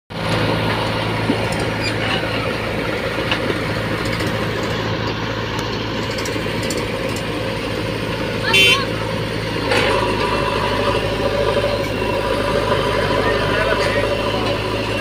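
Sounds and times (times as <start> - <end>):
diesel engines idling: 0.1 - 15.0.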